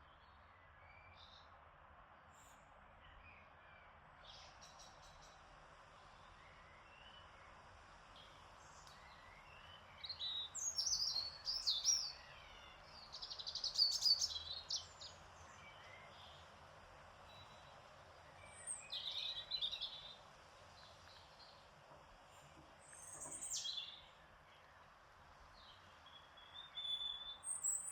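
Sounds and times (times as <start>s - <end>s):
songbirds chirping and trilling: 2.4s - 27.9s.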